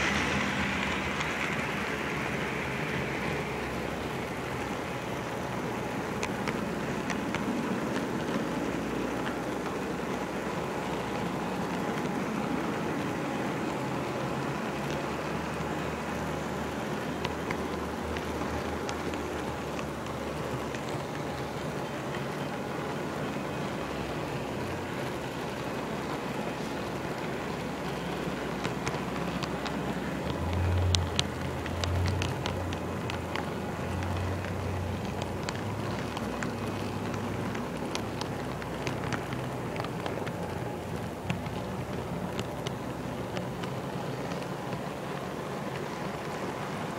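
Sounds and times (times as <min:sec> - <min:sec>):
clicks over rail joints: 0:00.0 - 0:46.9
model train car rumbling on track: 0:00.0 - 0:46.9.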